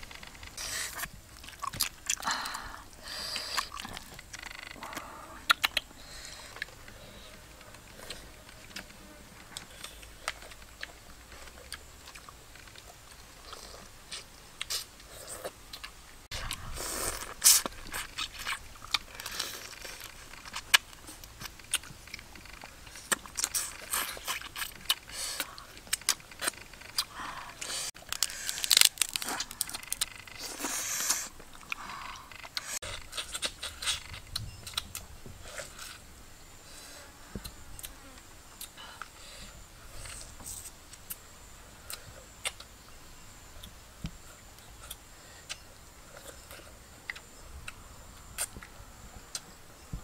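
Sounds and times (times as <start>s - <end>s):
crunching and chewing: 0.0s - 36.0s, 41.8s - 42.8s, 43.5s - 49.6s.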